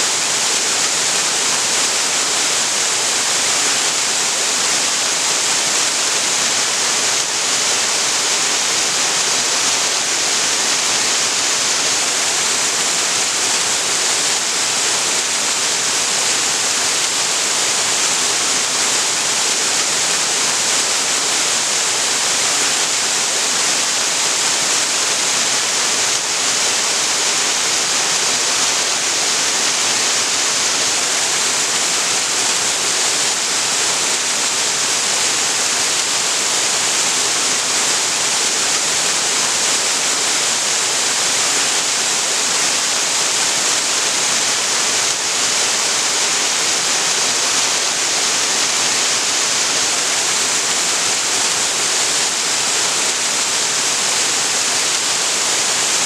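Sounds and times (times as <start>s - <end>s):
waterfall splashing: 0.0s - 56.0s.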